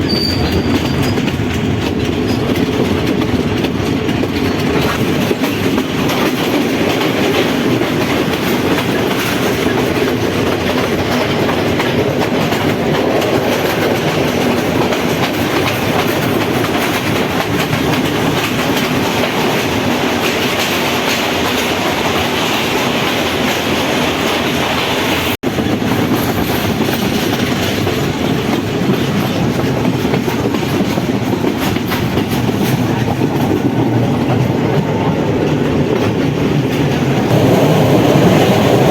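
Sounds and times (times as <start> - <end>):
wheels clattering over rails: 0.0 - 24.8, 25.4 - 38.9
train rumbling on track: 0.0 - 38.9.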